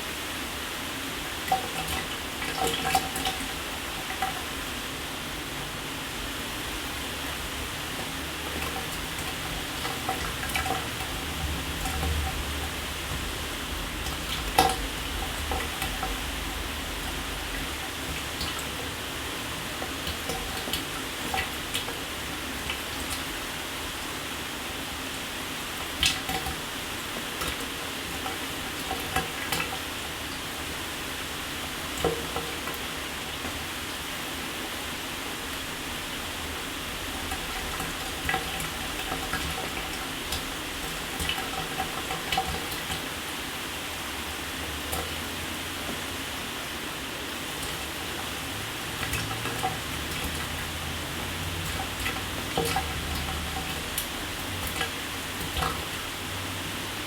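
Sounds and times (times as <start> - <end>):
water splats and drips: 1.3 - 4.6, 6.6 - 30.6, 35.4 - 57.0.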